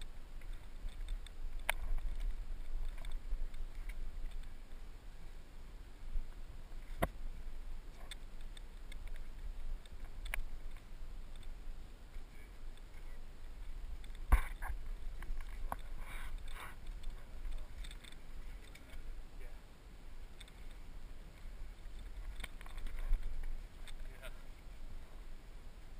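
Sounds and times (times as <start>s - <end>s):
wind rumble on microphone: 0.0s - 25.9s.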